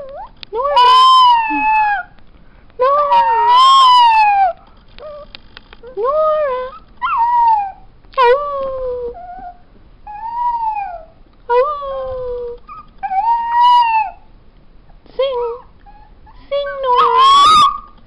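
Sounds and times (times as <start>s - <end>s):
puppy howling: 0.0s - 2.2s, 2.8s - 14.3s, 16.8s - 18.0s.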